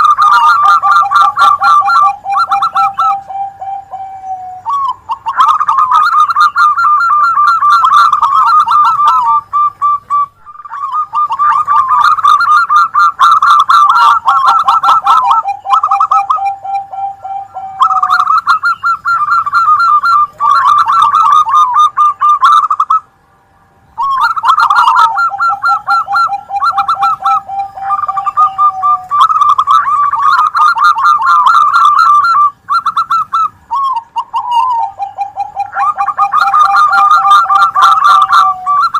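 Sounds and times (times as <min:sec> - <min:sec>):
doves cooing: 0:00.0 - 0:23.1, 0:24.0 - 0:38.9.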